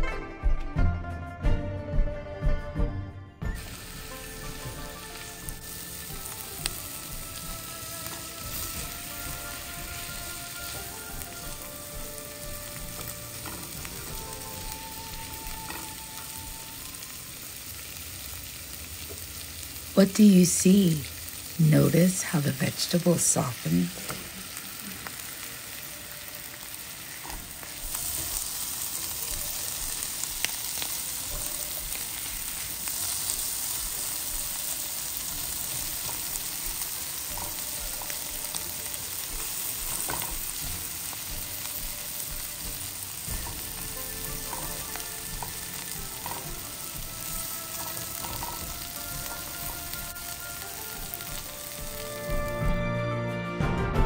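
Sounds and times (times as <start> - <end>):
vegetables sizzling in a pan: 3.4 - 52.9.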